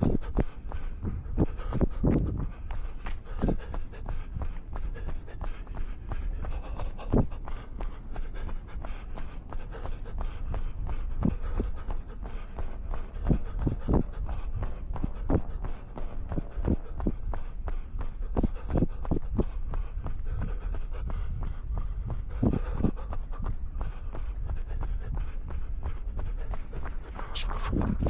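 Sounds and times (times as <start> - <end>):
constant low rumble: 0.0 - 28.0
runner breathing: 0.0 - 28.0.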